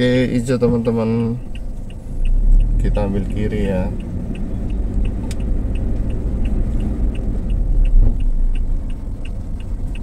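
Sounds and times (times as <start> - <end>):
engine and tyre rumble: 0.0 - 10.0
turn signal ticking: 0.0 - 10.0.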